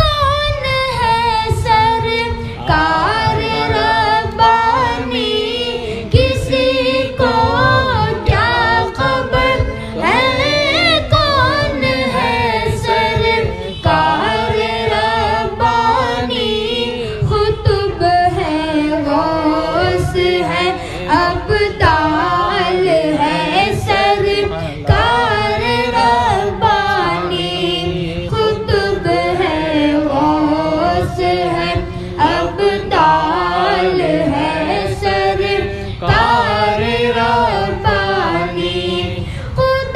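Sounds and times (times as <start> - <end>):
boy singing devotional song: 0.0 - 39.9
low pulsing backing music: 0.0 - 39.9.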